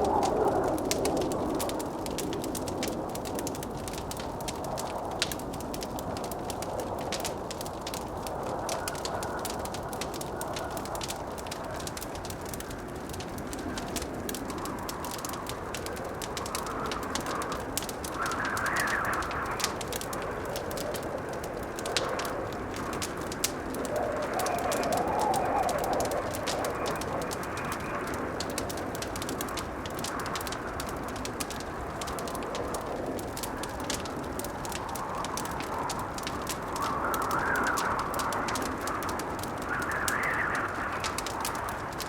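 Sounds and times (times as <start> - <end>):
wind howling: 0.0 - 42.0
wood fire crackling and popping: 0.0 - 42.0.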